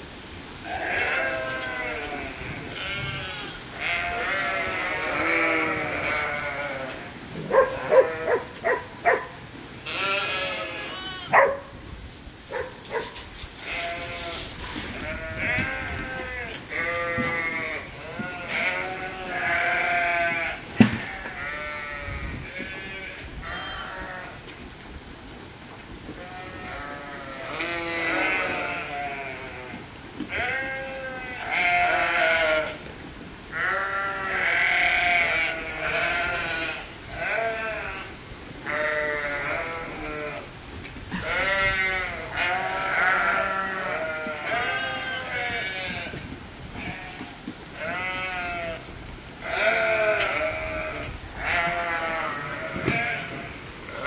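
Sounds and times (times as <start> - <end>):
lambs bleating: 0.7 - 8.8, 9.8 - 11.4, 13.6 - 24.4, 26.2 - 32.8, 33.5 - 40.5, 41.1 - 48.8, 49.4 - 54.0.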